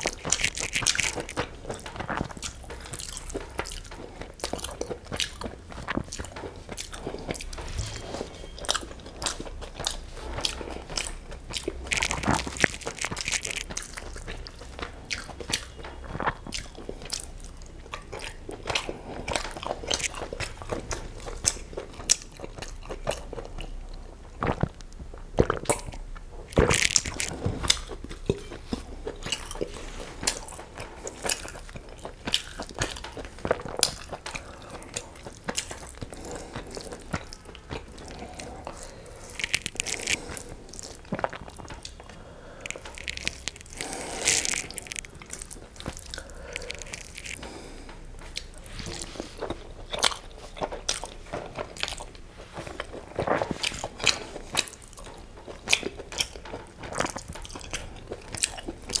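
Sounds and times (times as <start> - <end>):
man chewing with wet mouth sounds: 0.0 - 59.0.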